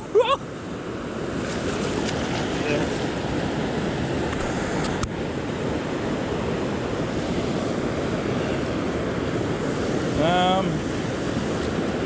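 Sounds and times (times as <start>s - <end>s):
rushing water: 0.9s - 12.0s.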